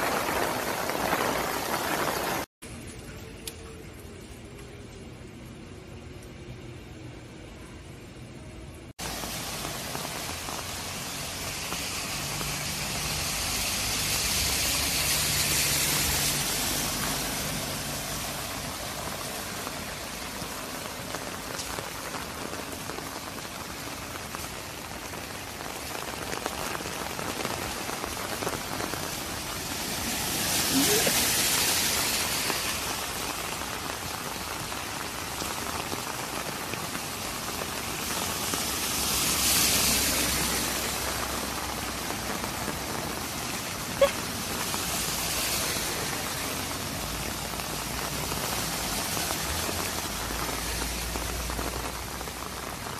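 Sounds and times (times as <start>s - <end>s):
heavy rain pouring on street: 0.0s - 52.9s.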